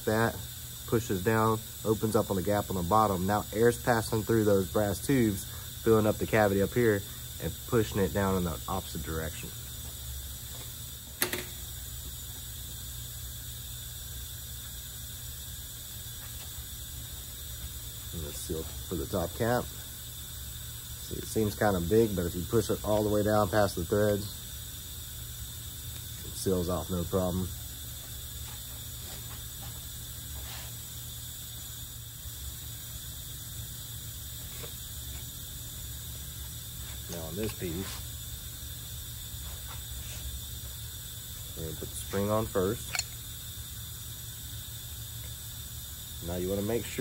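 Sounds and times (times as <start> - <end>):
faint hiss: 0.0 - 47.0
steady low hum: 0.0 - 47.0.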